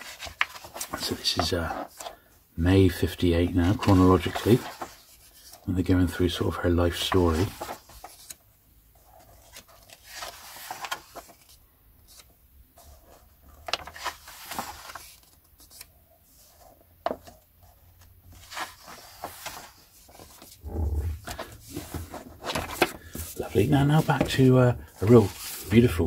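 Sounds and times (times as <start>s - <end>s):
paper pages rustling: 0.0s - 26.0s.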